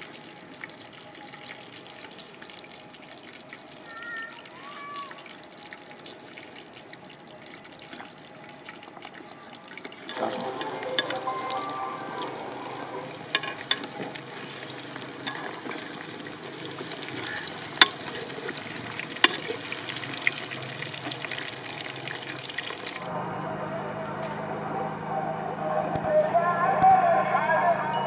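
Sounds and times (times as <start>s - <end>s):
eggplant sizzling in hot oil: 0.0s - 23.1s.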